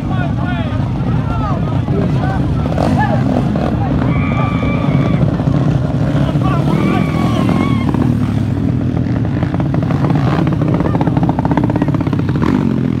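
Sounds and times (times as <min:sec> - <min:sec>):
motorcycle engines racing: 0:00.0 - 0:13.0
motorcycle passing by: 0:01.4 - 0:13.0.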